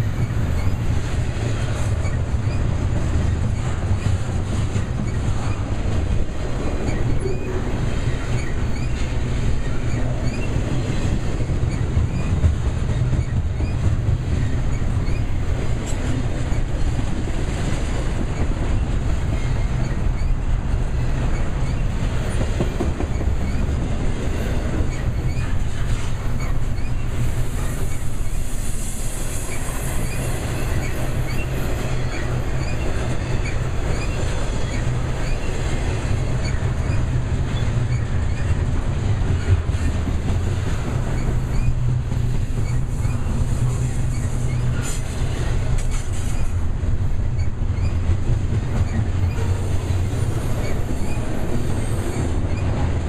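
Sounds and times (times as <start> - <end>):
rattle of train cars: 0.0 - 53.0
train wheels rumbling on rails: 0.0 - 53.0.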